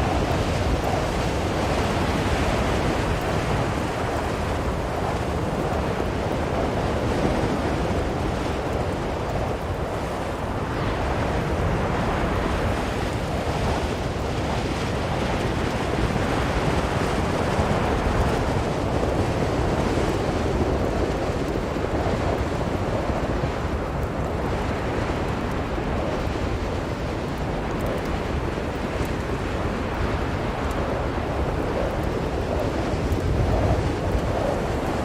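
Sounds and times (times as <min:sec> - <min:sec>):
strong blizzard wind: 0:00.0 - 0:35.0.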